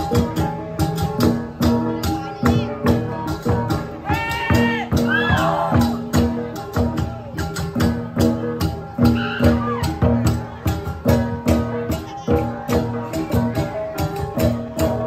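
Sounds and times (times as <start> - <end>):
bronze gongs struck in rhythm: 0.0 - 15.0.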